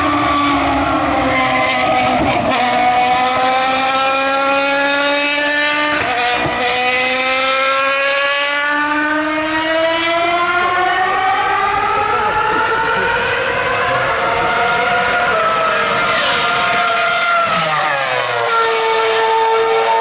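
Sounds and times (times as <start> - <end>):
racing car engine accelerating: 0.0 - 20.0.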